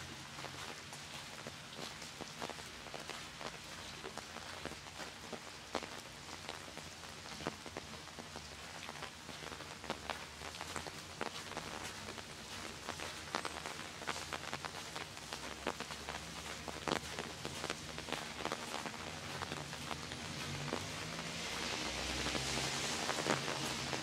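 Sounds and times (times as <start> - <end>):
rain hissing on pavement: 0.0 - 24.0
raindrops ticking: 0.0 - 24.0.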